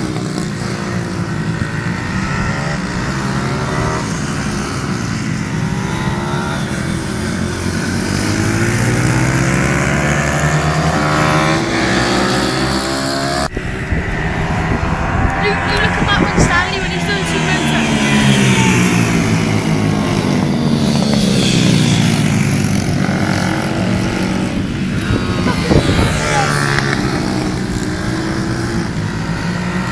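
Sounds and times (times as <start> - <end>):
motorbike engines revving: 0.0 - 29.9.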